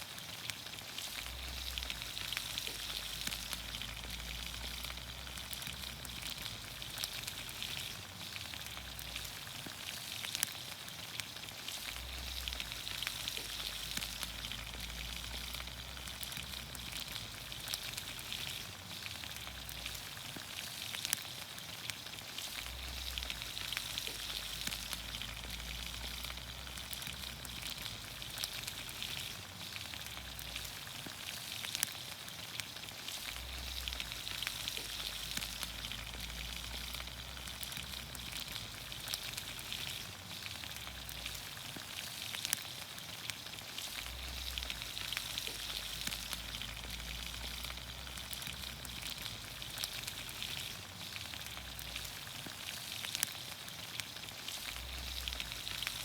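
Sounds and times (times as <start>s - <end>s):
vegetables sizzling in oil: 0.0s - 56.0s
sharp pops and crackles: 0.3s - 56.0s.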